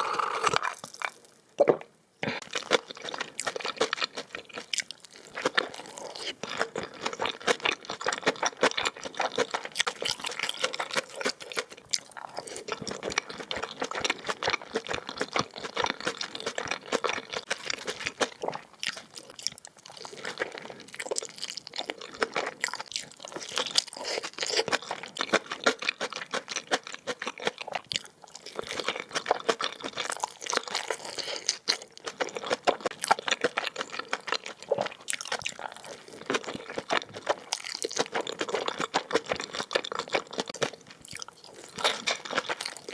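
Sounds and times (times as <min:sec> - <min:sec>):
person chewing crunchily: 0:00.0 - 0:42.9.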